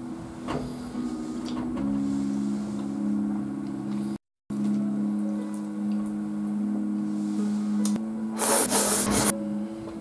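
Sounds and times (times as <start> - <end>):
low held music notes: 0.0 - 10.0.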